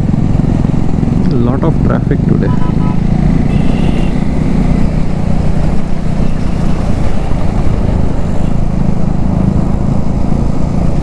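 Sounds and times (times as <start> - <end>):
motorcycle engine humming: 0.0 - 11.0
wind rumbling on microphone: 0.0 - 11.0.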